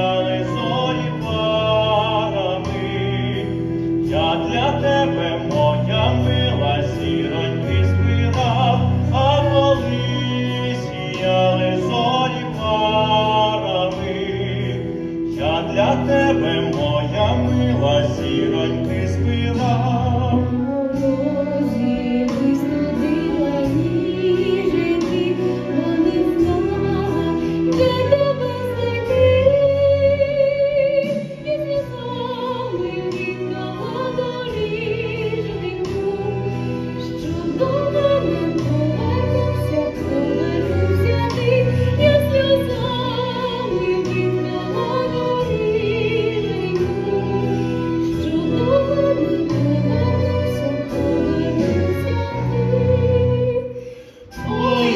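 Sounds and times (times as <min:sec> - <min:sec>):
operatic singing with vibrato: 0:00.0 - 0:54.9
orchestral accompaniment: 0:00.0 - 0:54.9.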